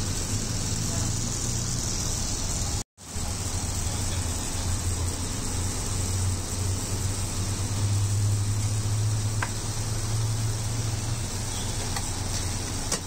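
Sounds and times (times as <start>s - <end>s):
background noise haze: 0.0s - 13.0s.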